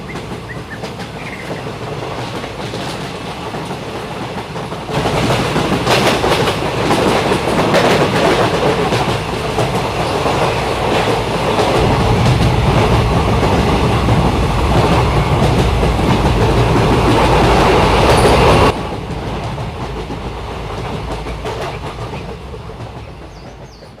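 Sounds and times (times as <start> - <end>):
train wheels clattering: 0.0 - 24.0.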